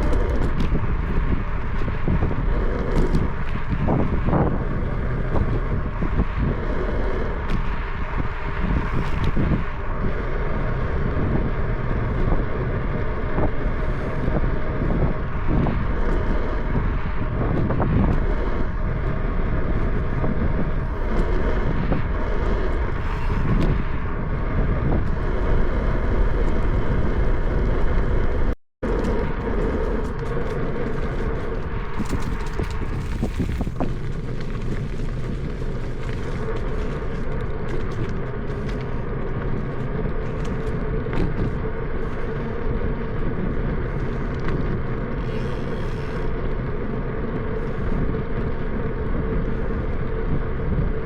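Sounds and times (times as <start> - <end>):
low road rumble: 0.0 - 51.0
wind buffeting microphone: 0.0 - 51.0.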